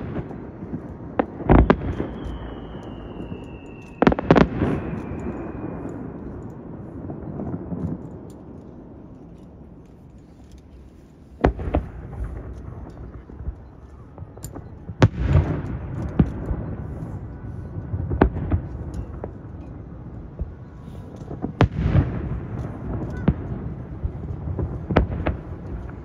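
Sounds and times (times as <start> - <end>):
fireworks bangs echoing: 0.0 - 8.3, 11.4 - 26.0.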